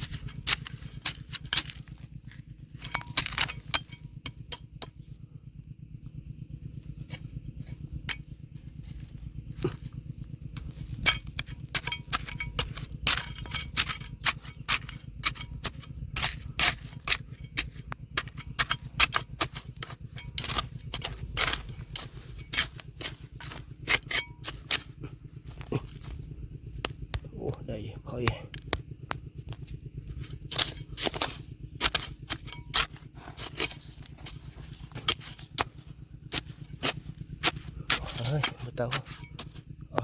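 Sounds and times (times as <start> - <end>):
rocks and metal tools clinking: 0.0 - 5.3, 6.0 - 40.0
steady low hum: 0.0 - 40.0.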